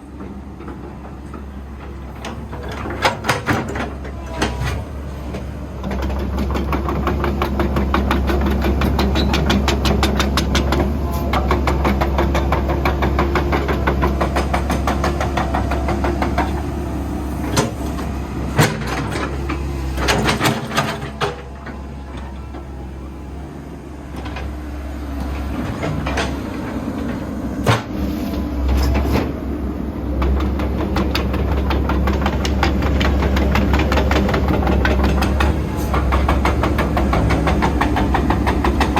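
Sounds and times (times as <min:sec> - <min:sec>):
excavator diesel engine rumble: 0:00.0 - 0:38.9.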